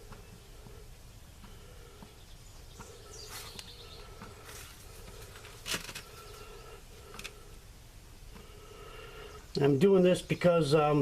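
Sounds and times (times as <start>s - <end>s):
birds chirping: 0.0s - 11.0s
low steady hum: 0.0s - 11.0s.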